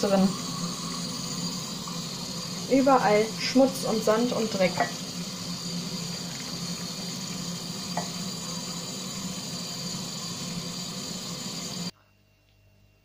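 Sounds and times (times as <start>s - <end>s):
tap water running into colander: 0.0s - 11.9s.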